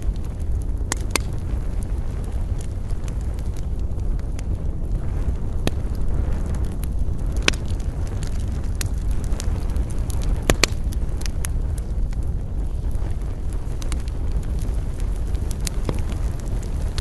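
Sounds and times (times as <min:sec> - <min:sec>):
campfire crackling and popping: 0:00.0 - 0:17.0
low fire rumble: 0:00.0 - 0:17.0.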